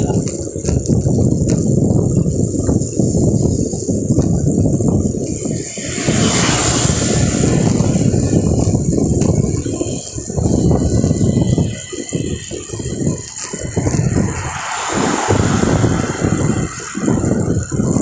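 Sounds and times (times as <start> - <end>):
road and rattle noise: 0.0 - 18.0
wind buffeting microphone: 0.0 - 18.0.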